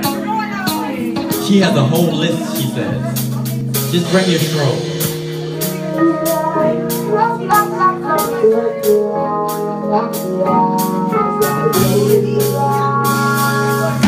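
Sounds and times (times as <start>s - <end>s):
keyboard chords: 0.0s - 14.0s
sustained bass notes: 0.0s - 14.0s.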